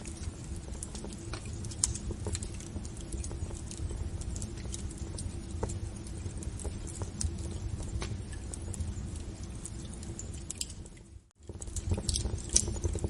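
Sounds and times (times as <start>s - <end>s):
low steady hum: 0.0s - 13.0s
wood fire crackling: 0.0s - 13.0s.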